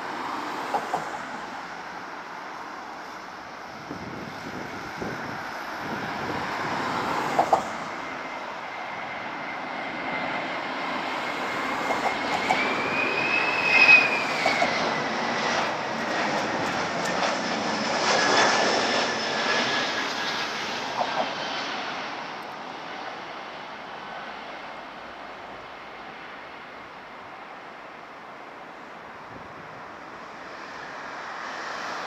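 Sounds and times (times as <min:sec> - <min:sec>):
jet engines roaring with whine: 0:00.0 - 0:32.0.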